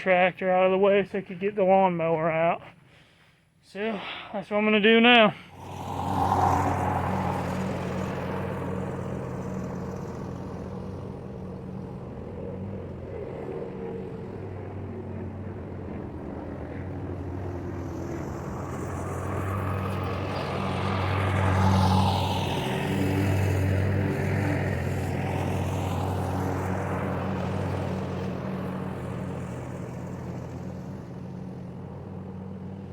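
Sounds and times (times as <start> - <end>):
engine running steadily: 5.4 - 32.9.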